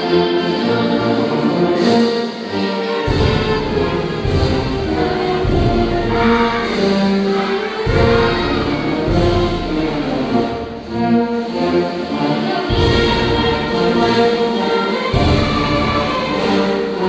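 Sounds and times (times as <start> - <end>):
choir singing held chords: 0.0 - 17.0
orchestral accompaniment: 0.0 - 17.0.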